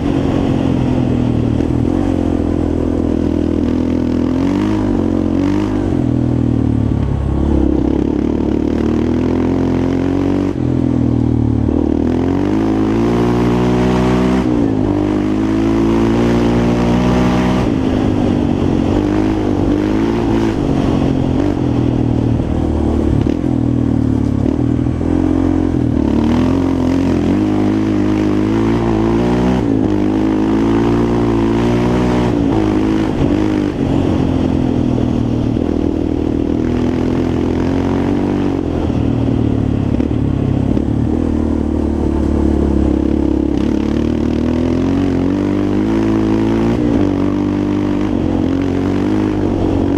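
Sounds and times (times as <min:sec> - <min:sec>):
quad engine running: 0:00.0 - 0:49.9.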